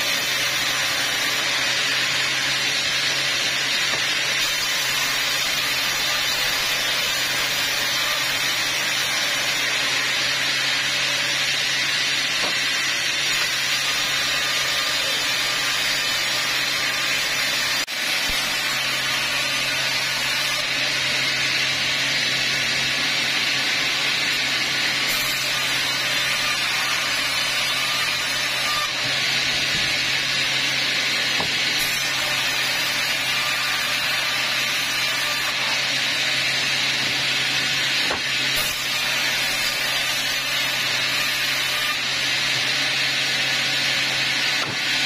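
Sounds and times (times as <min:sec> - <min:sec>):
band saw cutting logs: 0:00.0 - 0:45.0.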